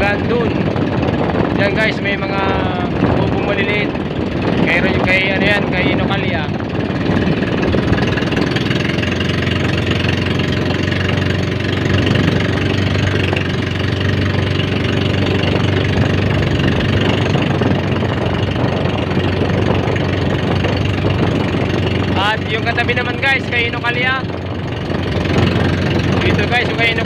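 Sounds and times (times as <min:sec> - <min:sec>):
motorboat engine running: 0:00.0 - 0:27.0.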